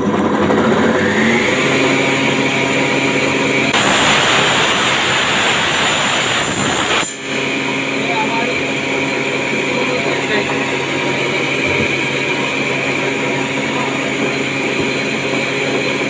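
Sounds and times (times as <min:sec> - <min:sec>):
circular saw whining: 0:00.0 - 0:16.0
saw cutting wood: 0:00.0 - 0:16.0.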